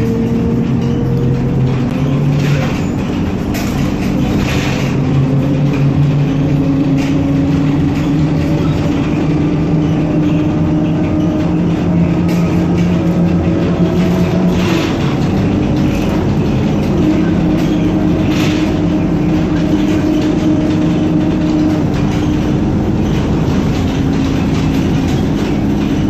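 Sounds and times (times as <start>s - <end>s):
electric traction motor humming: 0.0s - 26.0s
rumble of road noise: 0.0s - 26.0s.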